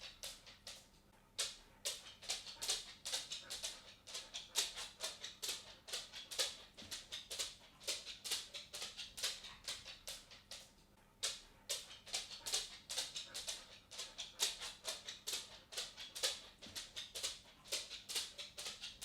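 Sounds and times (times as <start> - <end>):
dog claws tapping on wooden floor: 0.0 - 19.0.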